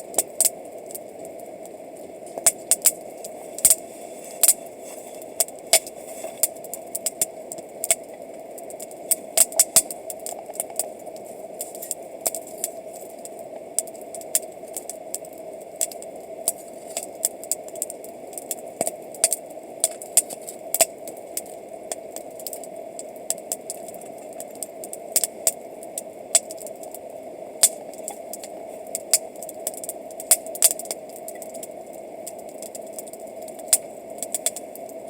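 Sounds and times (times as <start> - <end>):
campfire crackling and popping: 0.0 - 35.0
steady background hiss: 0.0 - 35.0.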